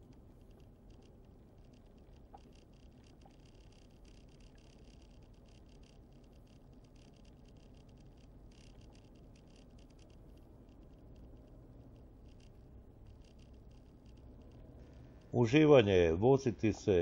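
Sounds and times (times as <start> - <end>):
light irregular ticking: 0.0 - 17.0.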